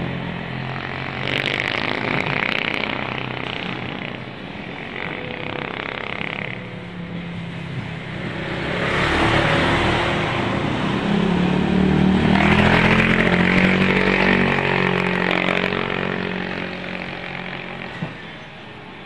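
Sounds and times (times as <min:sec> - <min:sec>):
motor scooter passing: 0:00.0 - 0:19.0.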